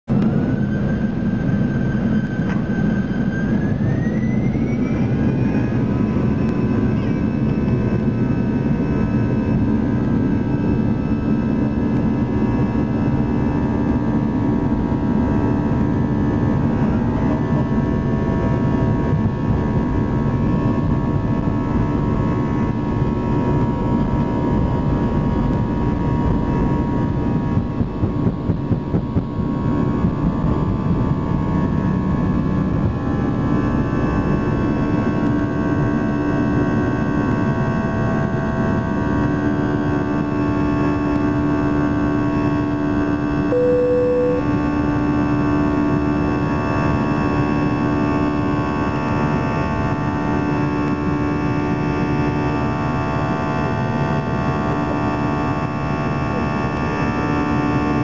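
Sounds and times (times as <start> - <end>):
jet engines rumbling and whining: 0.1 - 58.0.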